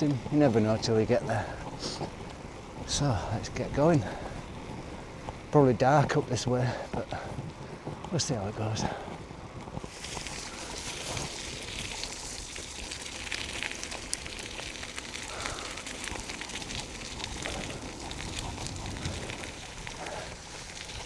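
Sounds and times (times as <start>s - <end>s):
bicycle tyres rolling on rough path: 0.0s - 21.0s.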